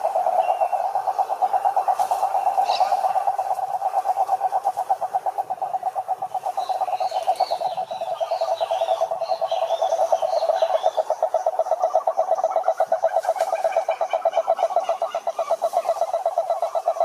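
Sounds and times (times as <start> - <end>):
frogs croaking in chorus: 0.0 - 17.0
high chirping calls: 0.0 - 17.0.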